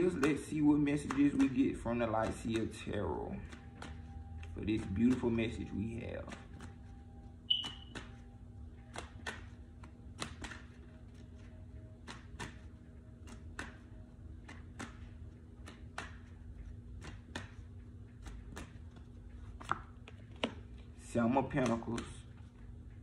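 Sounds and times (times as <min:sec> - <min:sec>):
cards being shuffled: 0:00.0 - 0:23.0.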